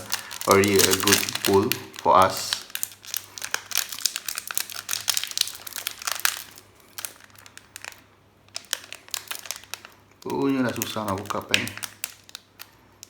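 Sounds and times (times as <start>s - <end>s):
wrapper crinkling: 0.0s - 13.0s.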